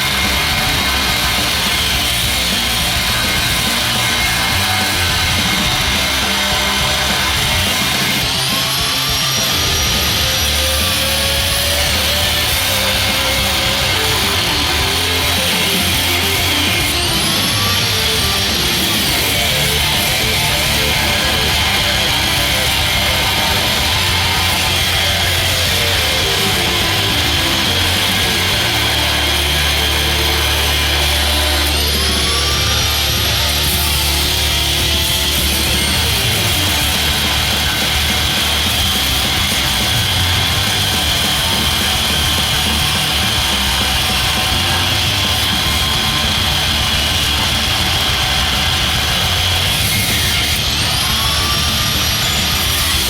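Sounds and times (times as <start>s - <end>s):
rock music with electric guitar: 0.0s - 53.0s.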